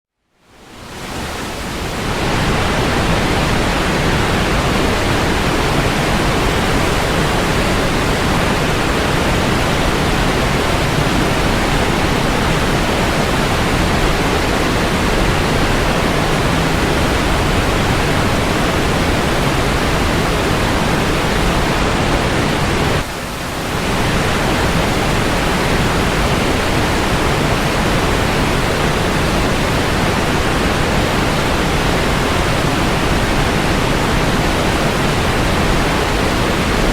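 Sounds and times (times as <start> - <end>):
waterfall rushing: 0.5 - 36.9.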